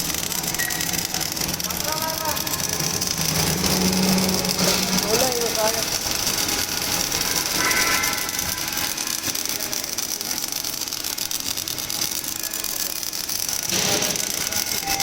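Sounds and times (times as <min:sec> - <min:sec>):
welding arc crackling and hissing: 0:00.0 - 0:15.0.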